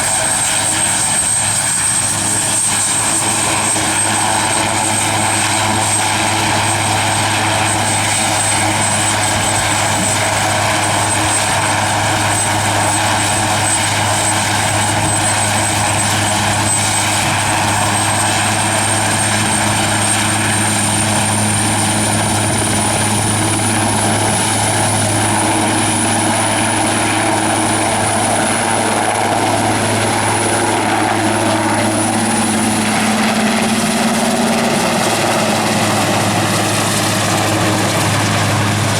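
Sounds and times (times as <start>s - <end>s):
helicopter engines and rotors: 0.0s - 38.9s.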